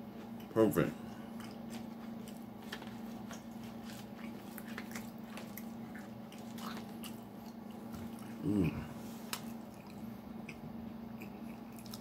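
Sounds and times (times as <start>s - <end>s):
steady low hum: 0.0s - 12.0s
person chewing crunchy crackers: 1.1s - 12.0s.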